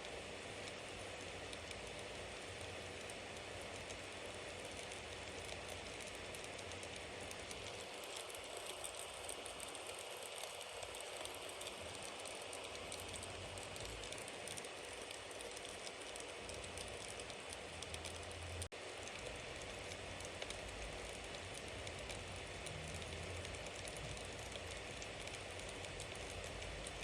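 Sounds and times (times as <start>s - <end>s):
bonfire crackling: 0.1s - 27.0s.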